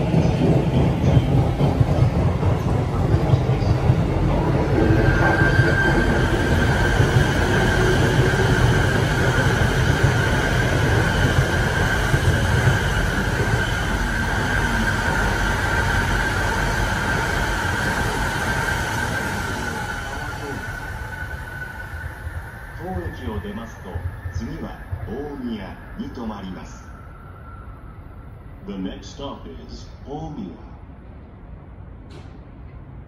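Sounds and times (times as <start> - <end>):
train wheels and motors rumbling: 0.0 - 26.6, 29.1 - 33.0.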